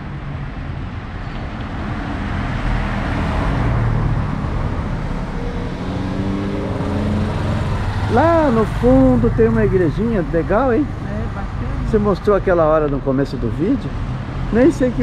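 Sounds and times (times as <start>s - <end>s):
car passing: 0.0s - 15.0s.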